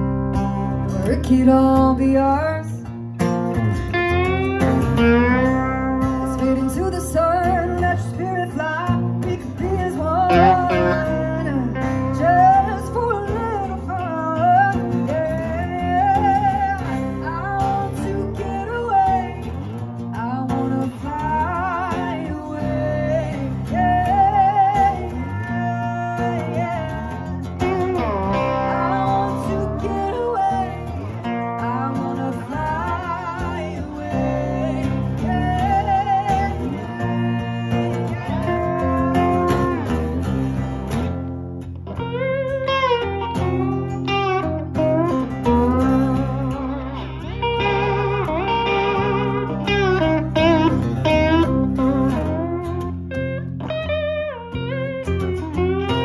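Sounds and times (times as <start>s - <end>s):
lap steel guitar sliding melody: 0.0s - 56.0s
strummed acoustic guitar: 0.0s - 56.0s.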